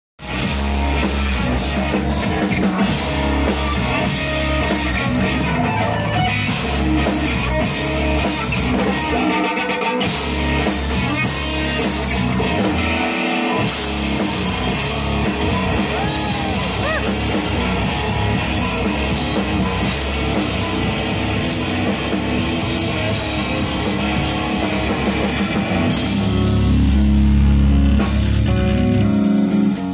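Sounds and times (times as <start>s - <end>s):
bass guitar: 0.2s - 29.9s
drum kit: 0.2s - 29.9s
electric guitar: 0.2s - 29.9s.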